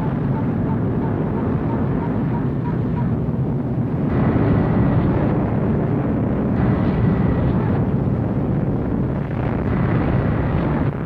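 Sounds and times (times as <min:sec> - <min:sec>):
dense low rumble: 0:00.0 - 0:11.0.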